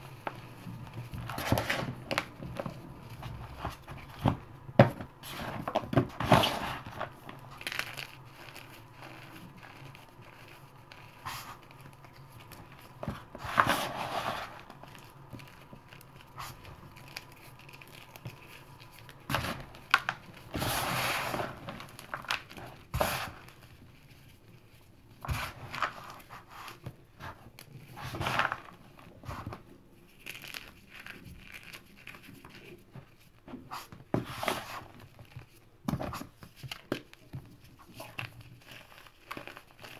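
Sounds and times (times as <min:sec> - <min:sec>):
hands crushing crispy chalk: 0:00.0 - 0:39.9.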